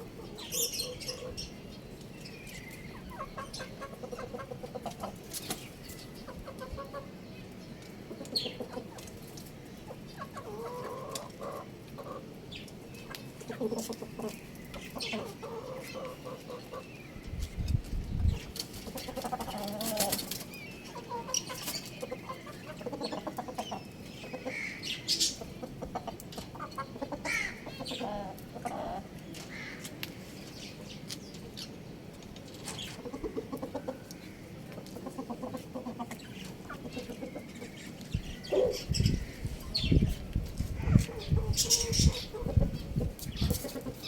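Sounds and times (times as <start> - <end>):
chickens clucking: 0.0 - 44.0.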